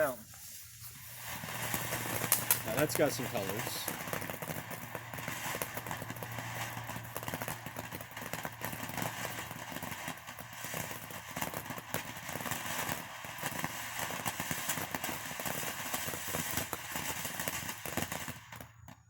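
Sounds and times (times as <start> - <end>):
firework crackles: 0.0 - 19.0
firework fountain hissing: 0.0 - 19.0.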